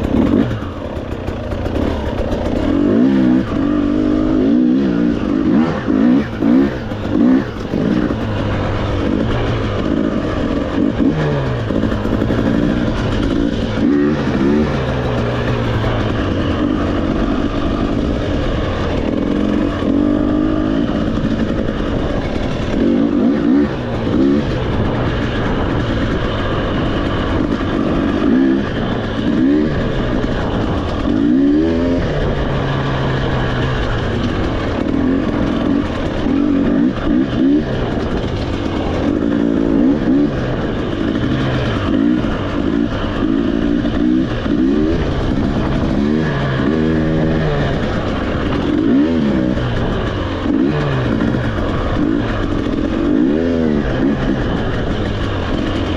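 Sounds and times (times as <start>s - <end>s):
motorcycle engine revving: 0.0s - 55.9s
steady rushing noise: 0.0s - 55.9s.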